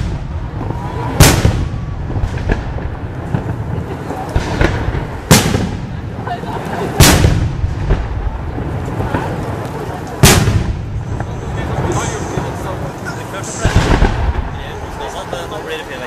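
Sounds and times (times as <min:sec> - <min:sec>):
quiet firework pops: 0:00.0 - 0:15.2
firework bangs with echo: 0:00.0 - 0:15.6.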